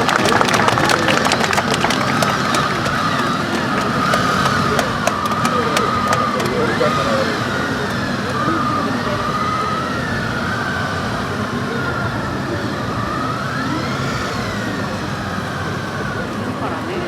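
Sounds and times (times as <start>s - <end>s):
motorcycle siren wailing: 0.0s - 16.8s
crowd noise: 0.0s - 17.0s
engine noise: 0.0s - 17.0s.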